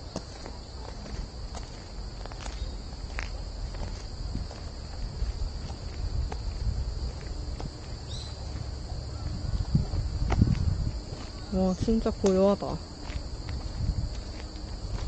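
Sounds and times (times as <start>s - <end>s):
footsteps on forest path: 0.0s - 15.0s
insects chorus: 0.0s - 15.0s.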